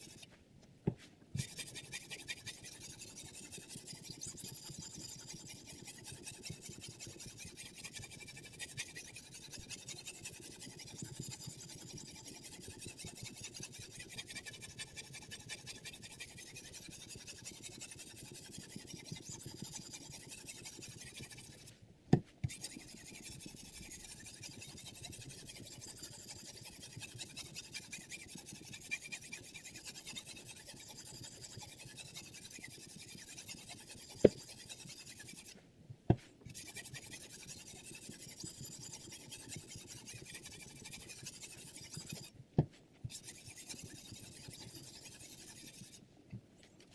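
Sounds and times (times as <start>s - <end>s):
sharpening stone scraping knife: 0.0s - 0.3s, 1.4s - 21.7s, 22.4s - 35.6s, 36.5s - 42.4s, 43.1s - 46.0s.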